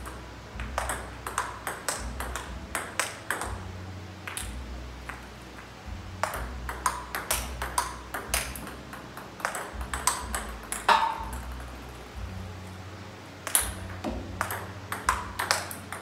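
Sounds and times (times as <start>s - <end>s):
table tennis ball clicking: 0.0s - 3.6s, 4.2s - 12.0s, 13.4s - 16.0s
low steady hum: 0.0s - 16.0s.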